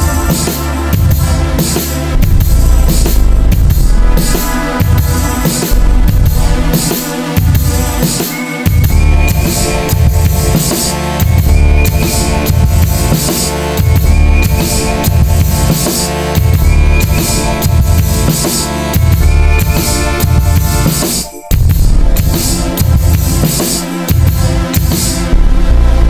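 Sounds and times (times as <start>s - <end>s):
electronic dance music: 0.0s - 26.0s.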